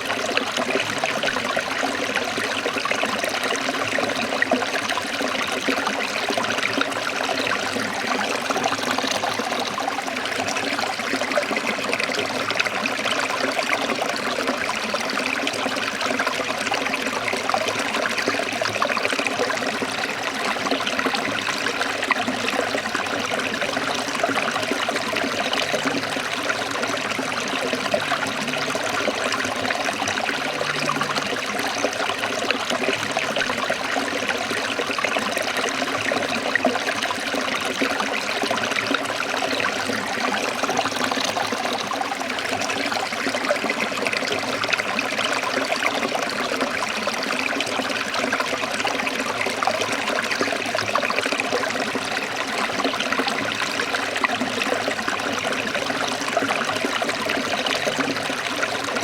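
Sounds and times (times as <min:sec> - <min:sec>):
stream trickling: 0:00.0 - 0:59.0.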